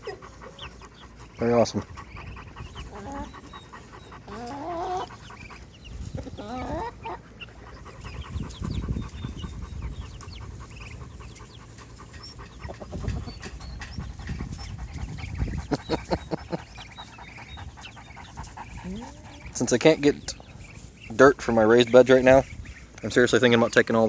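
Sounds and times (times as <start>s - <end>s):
chickens clucking: 0.0s - 24.0s
dog panting: 0.0s - 24.0s.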